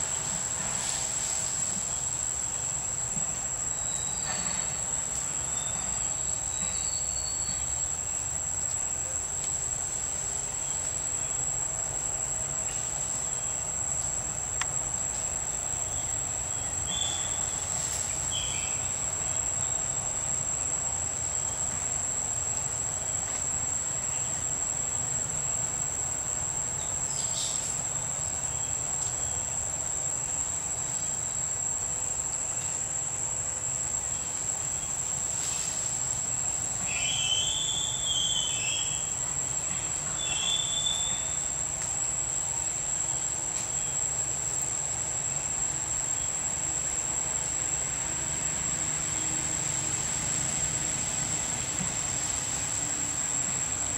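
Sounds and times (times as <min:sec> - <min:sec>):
insect drone: 0:00.0 - 0:53.9.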